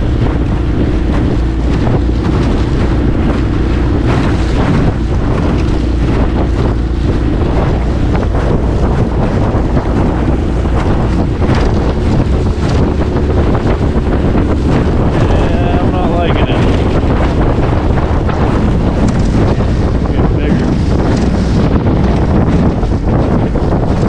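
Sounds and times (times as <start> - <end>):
outboard motor droning: 0.0 - 24.0
water splashing against hull: 0.0 - 24.0
wind buffeting microphone: 0.0 - 24.0.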